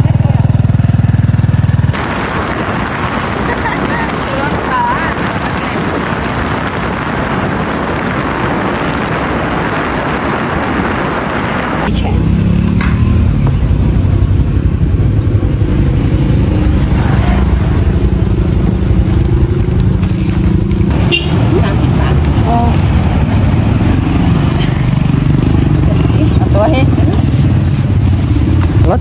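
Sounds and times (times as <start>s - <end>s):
low engine hum: 0.0s - 29.0s
wind rushing over microphone: 0.0s - 29.0s.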